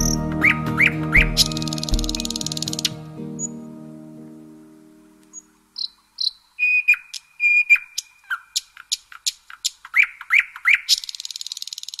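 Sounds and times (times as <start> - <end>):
nightingale singing: 0.0 - 4.0, 4.6 - 12.0.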